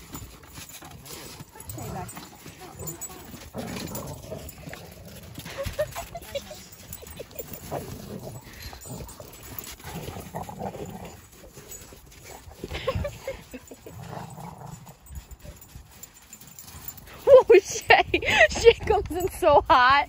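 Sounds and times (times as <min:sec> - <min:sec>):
dogs vocalizing: 0:00.0 - 0:17.2
paws running in snow: 0:00.0 - 0:18.1.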